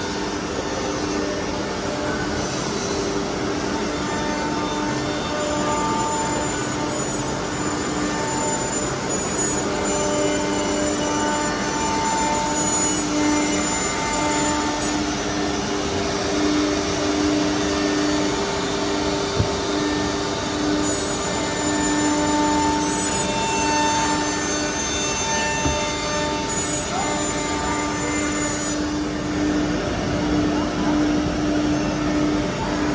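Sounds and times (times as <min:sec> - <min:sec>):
router machine noise with whining: 0:00.0 - 0:32.9.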